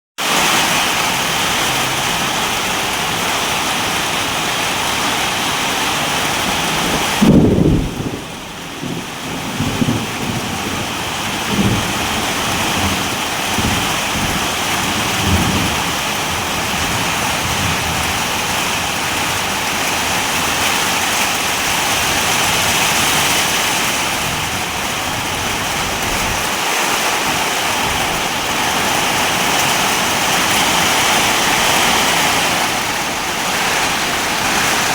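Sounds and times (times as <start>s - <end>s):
heavy rain hiss: 0.2s - 34.9s
thunder clap and rumble: 6.1s - 34.9s.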